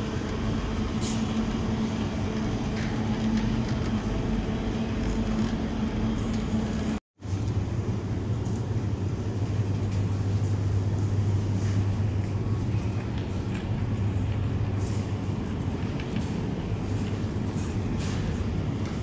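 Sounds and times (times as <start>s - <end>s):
refrigerated display cases humming: 0.0s - 19.0s
ventilation: 0.0s - 19.0s.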